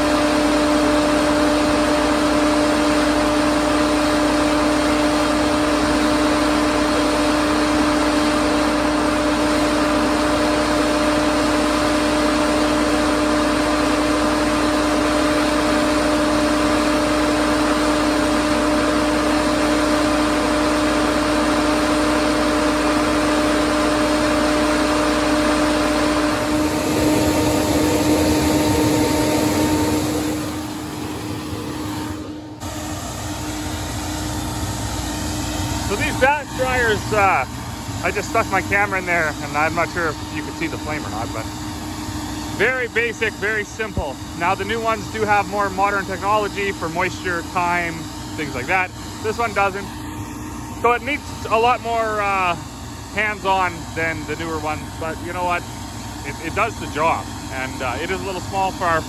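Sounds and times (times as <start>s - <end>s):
grain dryer fan humming: 0.0s - 59.0s.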